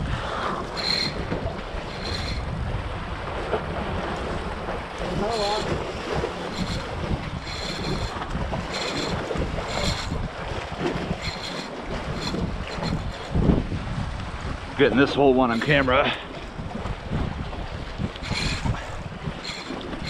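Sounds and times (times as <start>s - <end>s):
waves washing against concrete: 0.0s - 20.0s
wind buffeting microphone: 0.0s - 20.0s.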